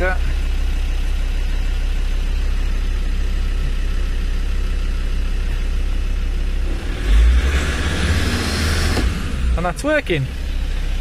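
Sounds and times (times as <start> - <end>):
diesel engine running from inside cab: 0.0 - 11.0.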